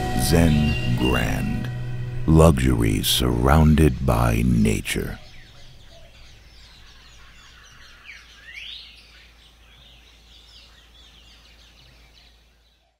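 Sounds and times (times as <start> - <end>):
birds chirping and trilling: 0.0 - 12.9.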